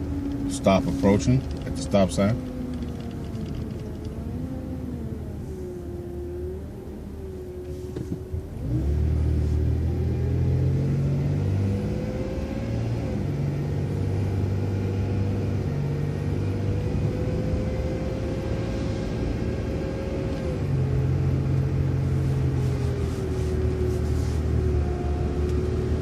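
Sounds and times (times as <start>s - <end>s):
bus engine pulling away: 0.0s - 26.0s
drivetrain whine: 0.0s - 26.0s.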